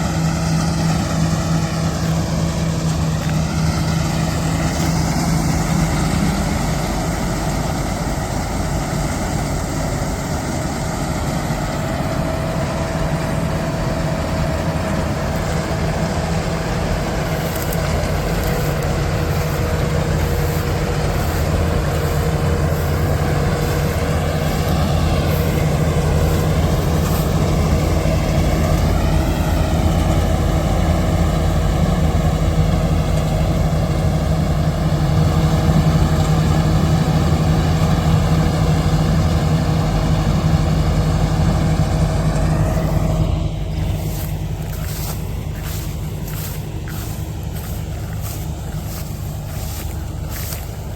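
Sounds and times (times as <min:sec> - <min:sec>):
combine harvester engine running: 0:00.0 - 0:50.9
high wavering whine: 0:00.0 - 0:50.9.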